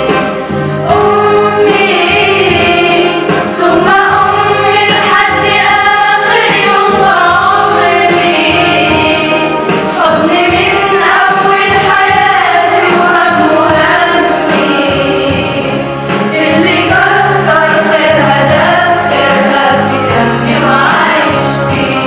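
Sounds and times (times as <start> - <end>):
girls' choir singing: 0.0 - 22.0.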